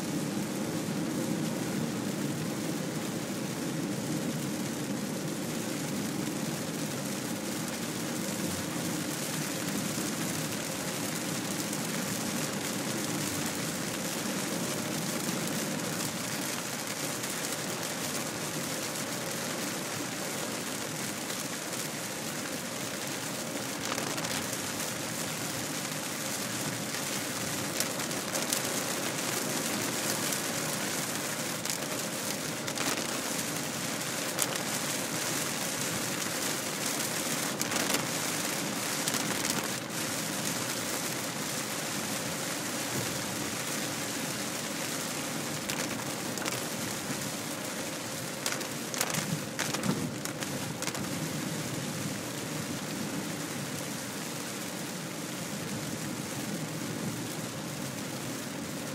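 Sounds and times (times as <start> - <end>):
heavy rain on car windshield: 0.0 - 58.9.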